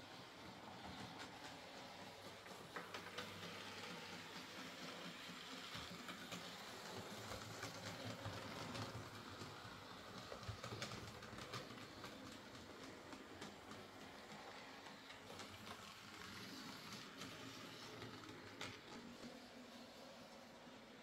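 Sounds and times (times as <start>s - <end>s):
wheels clicking on rails: 0.0s - 21.0s.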